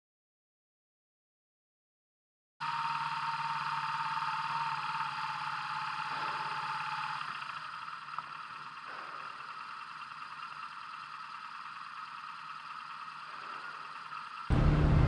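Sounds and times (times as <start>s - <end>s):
motorcycle engine at low revs: 2.6s - 15.0s
steady whine: 2.6s - 15.0s.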